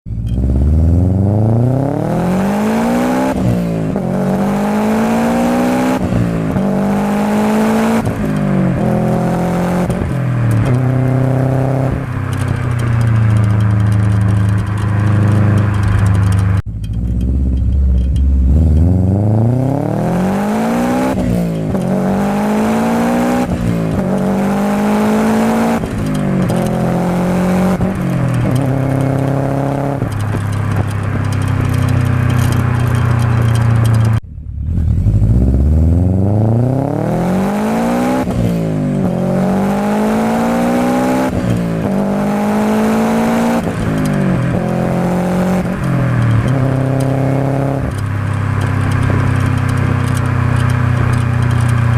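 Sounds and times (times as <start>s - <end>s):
car engine accelerating hard: 0.1s - 51.9s.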